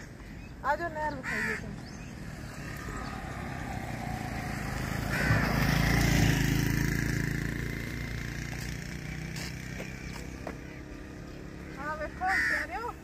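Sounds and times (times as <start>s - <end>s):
motorcycle engine passing by: 1.2s - 13.0s.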